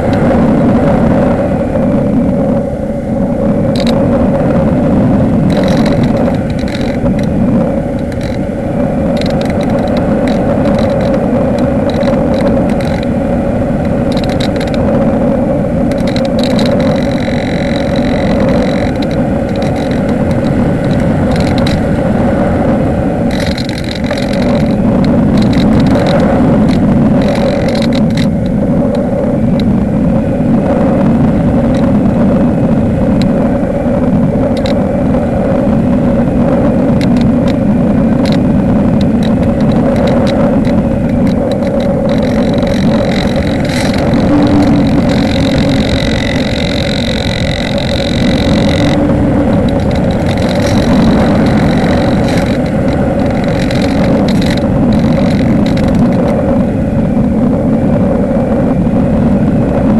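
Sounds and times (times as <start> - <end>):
model airplane propeller drone: 0.0 - 59.9
thin high whine: 0.0 - 59.9
wind rushing over microphone: 0.0 - 59.9.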